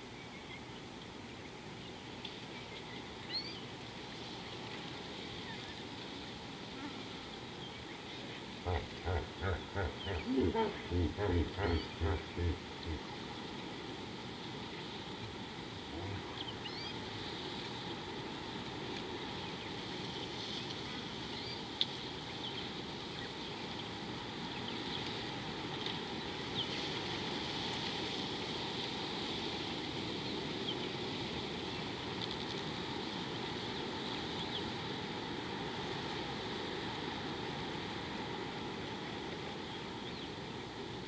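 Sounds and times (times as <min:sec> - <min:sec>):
steady high hiss: 0:00.0 - 0:41.0.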